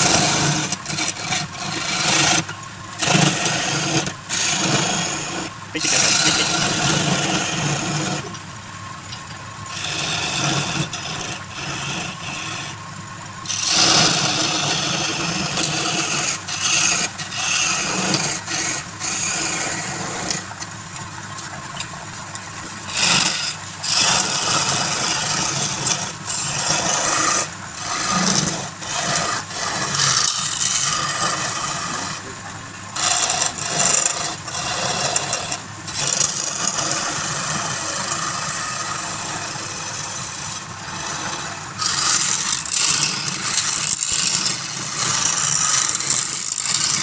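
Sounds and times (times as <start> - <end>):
turning tool scraping wood: 0.0 - 8.4, 9.1 - 12.8, 13.4 - 47.0
lathe humming: 0.0 - 47.0.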